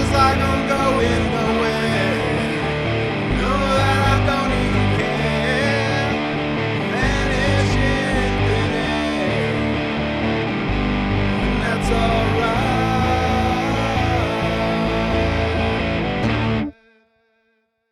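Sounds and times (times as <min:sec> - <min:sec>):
rock band music: 0:00.0 - 0:16.7
steady bass line: 0:00.0 - 0:16.7
wavering lead guitar line: 0:00.0 - 0:16.8.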